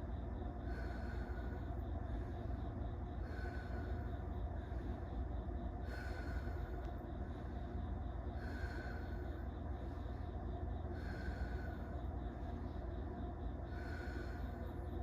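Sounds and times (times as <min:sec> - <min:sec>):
person breathing slowly: 0:00.0 - 0:15.0.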